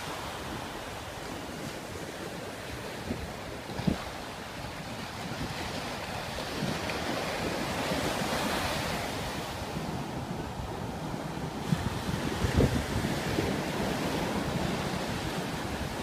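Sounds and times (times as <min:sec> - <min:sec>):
sea surf breaking on beach: 0:00.0 - 0:16.0.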